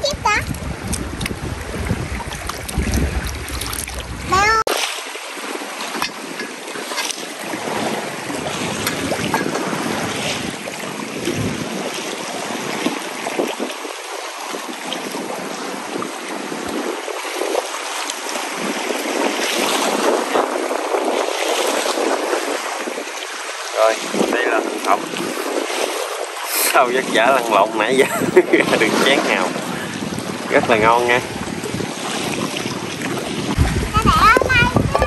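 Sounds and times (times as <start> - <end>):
sea water lapping: 0.0 - 35.0
wind on microphone: 0.0 - 35.0.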